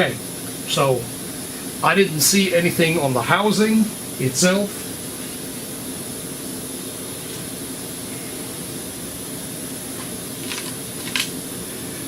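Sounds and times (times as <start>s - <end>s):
fan rushing: 0.0s - 12.0s.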